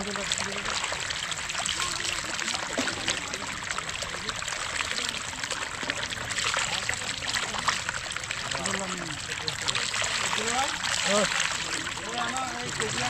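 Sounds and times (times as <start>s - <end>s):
water trickling and pouring: 0.0s - 13.0s.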